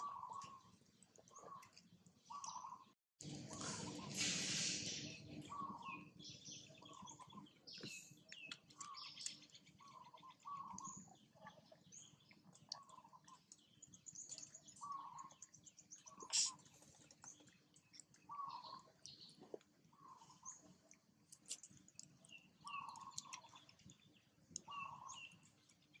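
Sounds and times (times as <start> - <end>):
birds chirping and twittering: 0.0 - 26.0.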